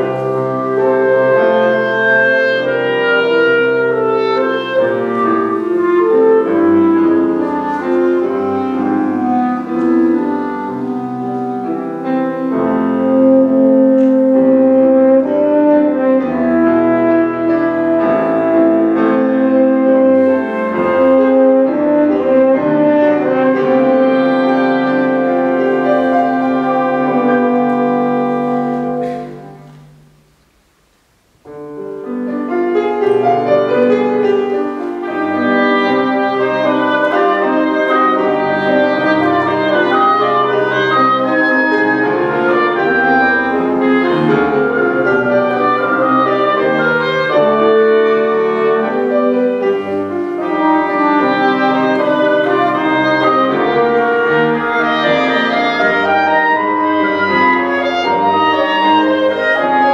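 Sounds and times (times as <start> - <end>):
woodwinds and piano playing classical: 0.0 - 59.9.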